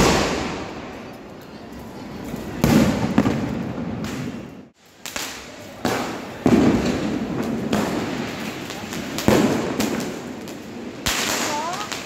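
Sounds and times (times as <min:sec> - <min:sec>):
sharp firework crack: 0:00.0 - 0:01.0, 0:02.5 - 0:12.0
fireworks banging: 0:00.0 - 0:12.0.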